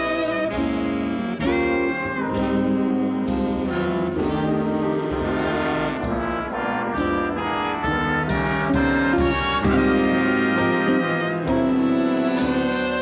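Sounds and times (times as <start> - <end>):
big band jazz: 0.0 - 13.0
trumpets and trombones: 0.0 - 13.0
upright bass: 0.0 - 13.0.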